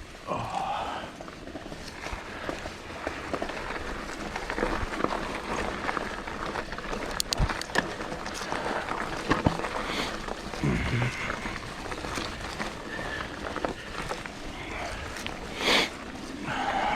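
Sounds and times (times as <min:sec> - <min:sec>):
bike tyres rolling on dirt: 0:00.0 - 0:16.9.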